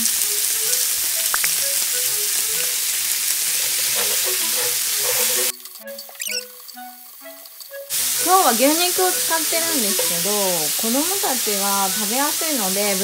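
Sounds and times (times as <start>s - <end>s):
background music: 0.0s - 13.0s
beef sizzling in oil: 0.0s - 13.0s.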